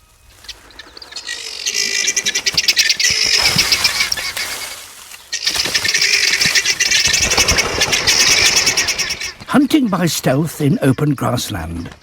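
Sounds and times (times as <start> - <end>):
guineafowl rattling chatter: 0.0 - 12.0.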